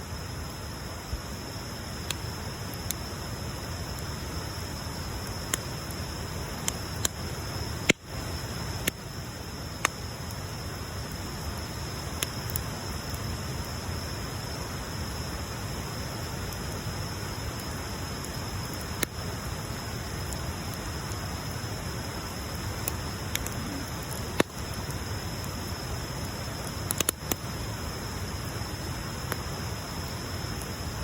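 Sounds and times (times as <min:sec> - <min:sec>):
bonfire hissing and rumbling: 0:00.0 - 0:31.0
fire crackles and pops: 0:00.0 - 0:31.0.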